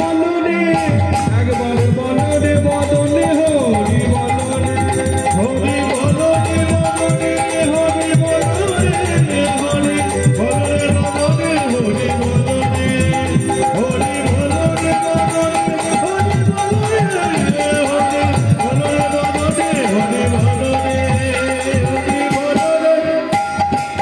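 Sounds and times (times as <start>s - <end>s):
high percussion: 0.0s - 24.0s
keyboard melody: 0.0s - 24.0s
hand drums fast rhythm: 0.7s - 24.0s.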